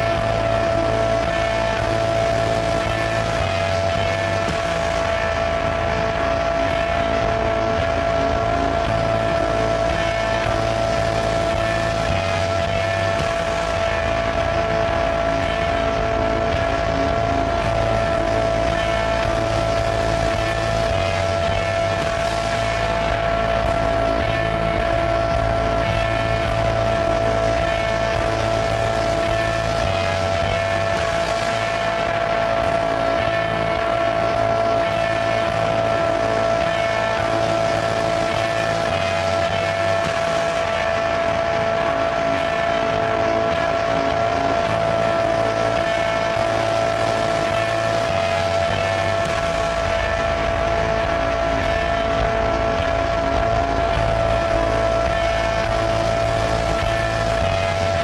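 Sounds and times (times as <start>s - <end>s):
electronic drone music: 0.0s - 58.0s.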